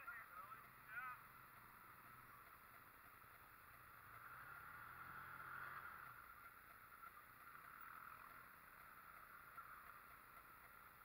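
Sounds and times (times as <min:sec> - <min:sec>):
muffled vehicle engine hum: 0:00.0 - 0:11.0.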